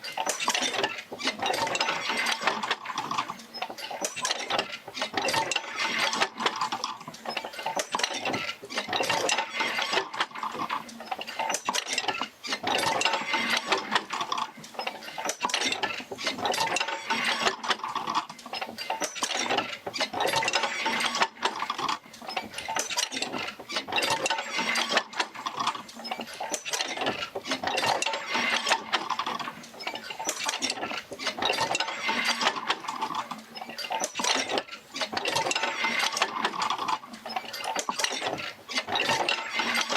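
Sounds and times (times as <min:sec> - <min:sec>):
mechanical clatter of clicks and knocks: 0:00.0 - 0:39.9.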